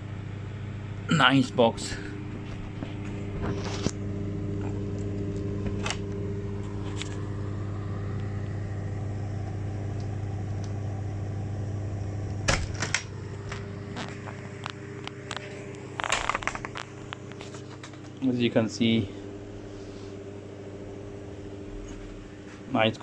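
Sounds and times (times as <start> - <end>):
air compressor humming: 0.0 - 23.0.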